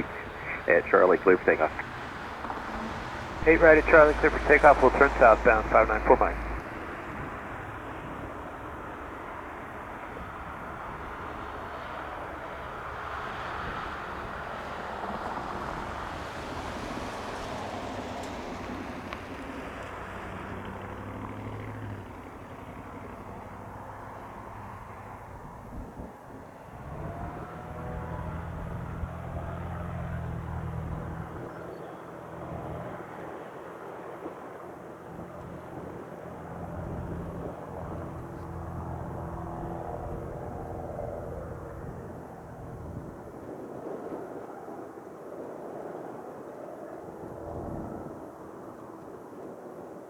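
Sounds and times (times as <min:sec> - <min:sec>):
propeller airplane engine drone: 0:00.0 - 0:50.0.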